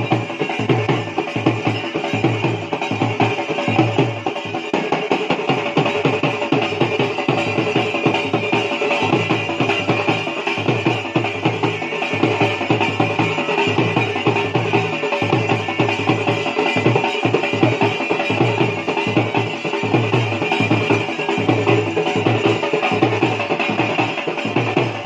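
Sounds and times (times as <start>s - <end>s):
fast dhol drumming: 0.0s - 25.0s.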